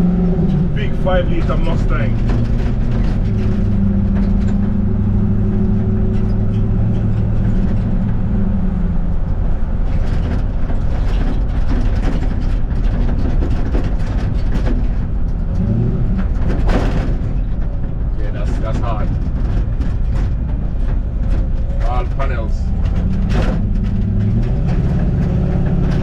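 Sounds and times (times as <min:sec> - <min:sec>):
road and wind rumble: 0:00.0 - 0:26.0
truck engine drone: 0:00.0 - 0:26.0.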